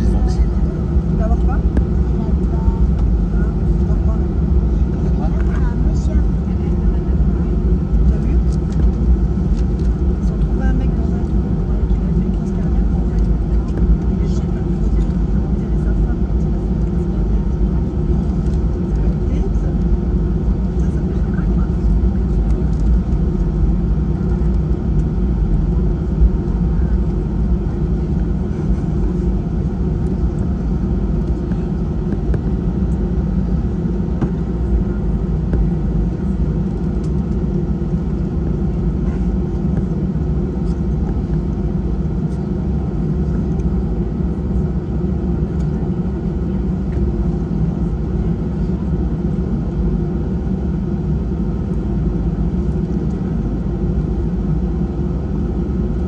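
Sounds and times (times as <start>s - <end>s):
jet engines low rumble: 0.0s - 56.0s.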